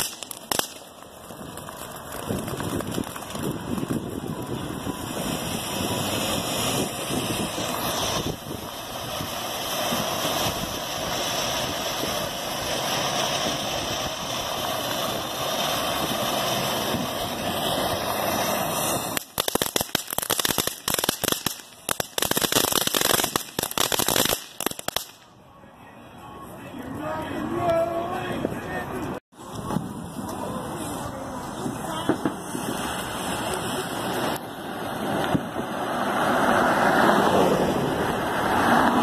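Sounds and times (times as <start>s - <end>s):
firework crackling pops: 0.0s - 25.4s, 29.4s - 39.0s
firework fountain hissing: 0.0s - 25.4s, 27.1s - 39.0s.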